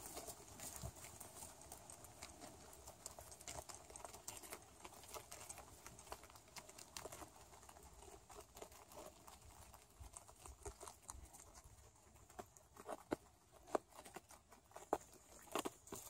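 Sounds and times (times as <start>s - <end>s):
rabbits crunching cabbage: 0.0s - 16.0s.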